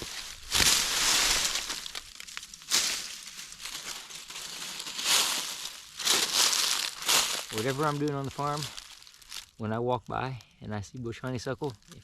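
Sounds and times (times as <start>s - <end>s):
shrubs crackling and crunching: 0.0s - 12.0s.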